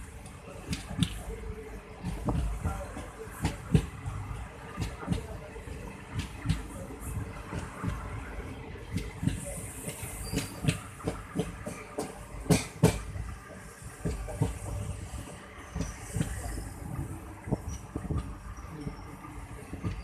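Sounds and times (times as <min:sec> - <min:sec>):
train wheels clacking on rails: 0:02.0 - 0:20.0.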